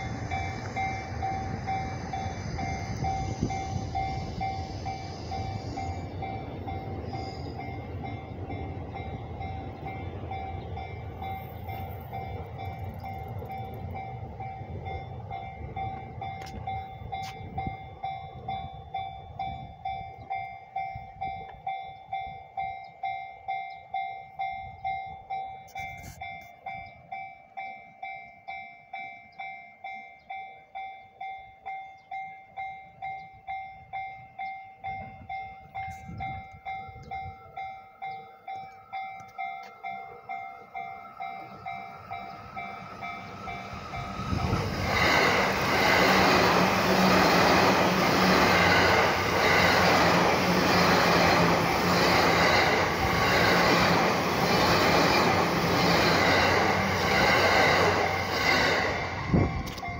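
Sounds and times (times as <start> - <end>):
level crossing warning bell: 0.0 - 59.9
train approaching: 0.0 - 59.9.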